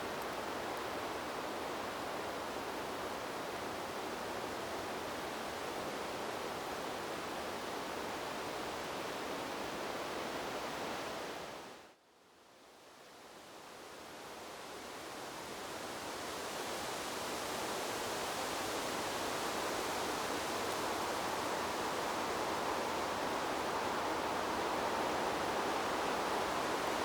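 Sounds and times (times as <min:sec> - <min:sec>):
wind blowing through trees: 0:00.0 - 0:27.0.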